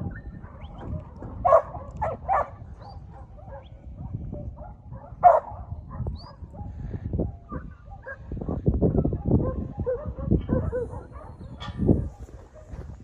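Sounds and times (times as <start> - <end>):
dog barking: 0.4 - 13.0.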